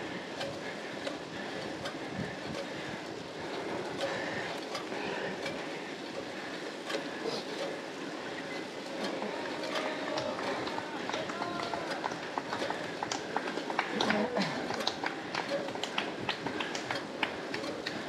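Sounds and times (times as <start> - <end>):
bicycle tyres rolling rumble: 0.0 - 18.0
small clicks and rattles: 0.3 - 18.0.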